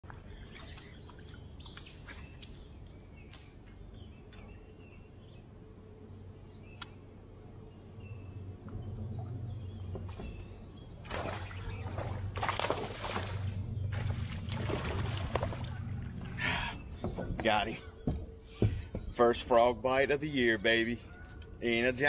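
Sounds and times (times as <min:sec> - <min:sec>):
low hum: 0:00.0 - 0:21.9
songbirds chirping: 0:00.0 - 0:22.0.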